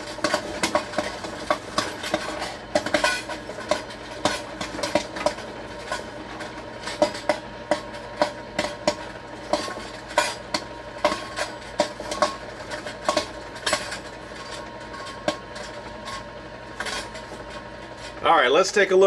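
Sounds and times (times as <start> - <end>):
machine hum: 0.0 - 19.0
popcorn popping: 0.0 - 19.0.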